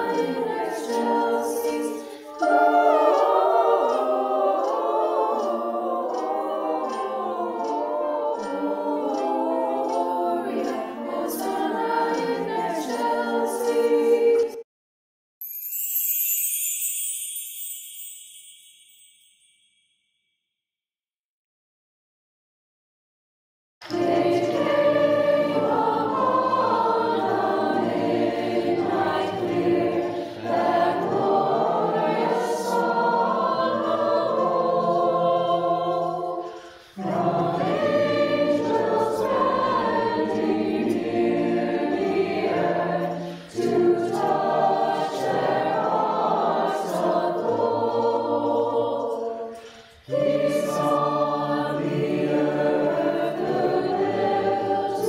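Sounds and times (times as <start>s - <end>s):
choir singing a carol: 0.0s - 14.6s, 23.8s - 55.0s.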